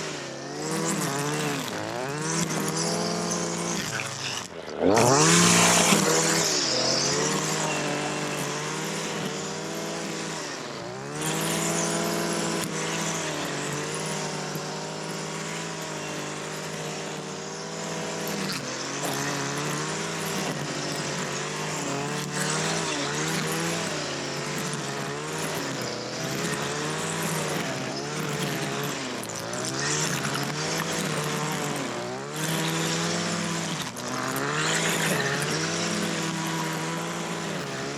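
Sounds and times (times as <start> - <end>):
small petrol engine running: 0.0 - 37.9.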